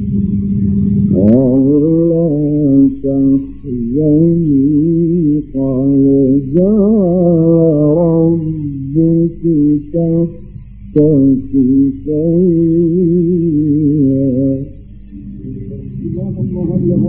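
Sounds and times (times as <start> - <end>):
man chanting melodically: 1.1 - 17.0.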